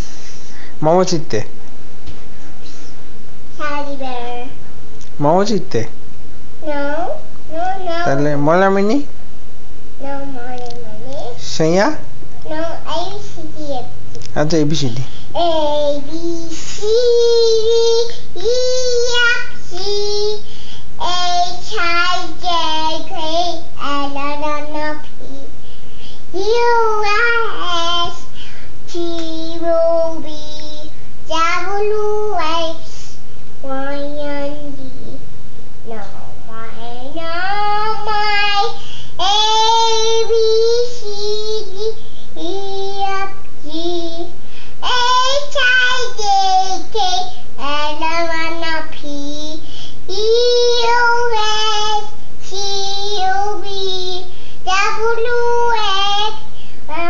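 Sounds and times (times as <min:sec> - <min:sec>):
toddler girl singing: 0:03.6 - 0:04.6, 0:06.6 - 0:08.2, 0:10.0 - 0:11.4, 0:12.4 - 0:14.0, 0:15.2 - 0:35.2, 0:35.8 - 0:57.0.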